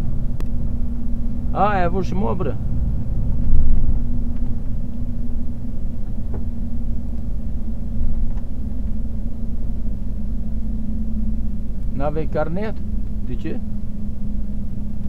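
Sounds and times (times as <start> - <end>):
low hum: 0.0 - 15.0
road rumble: 0.0 - 15.0
vehicle engine drone: 0.0 - 15.0.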